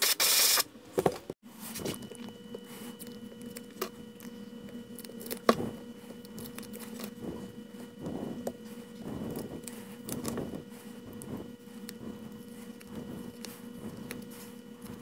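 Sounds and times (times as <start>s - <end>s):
tape crackling and rustling: 1.6s - 15.0s.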